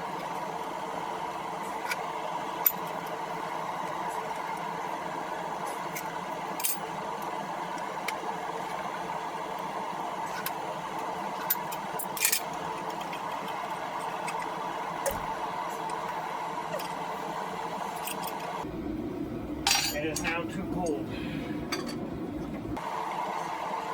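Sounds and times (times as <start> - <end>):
forge burner drone: 0.0 - 23.9.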